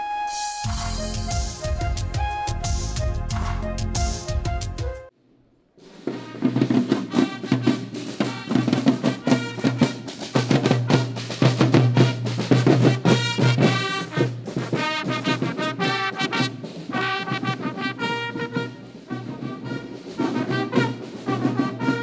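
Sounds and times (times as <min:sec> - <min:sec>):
brass horns: 0:00.0 - 0:05.1, 0:06.0 - 0:22.0
marching band playing: 0:00.6 - 0:05.1, 0:05.8 - 0:22.0
steady drum beats: 0:00.6 - 0:05.1, 0:05.8 - 0:22.0.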